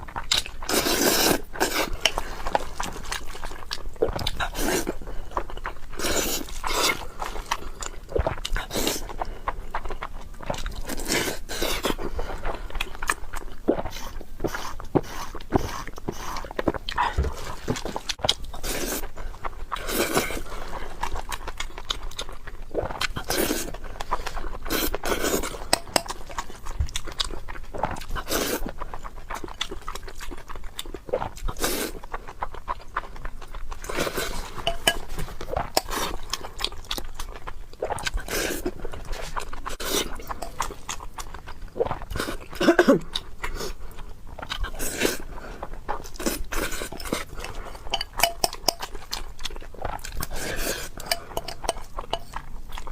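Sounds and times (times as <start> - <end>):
person chewing and smacking: 0.0 - 52.9.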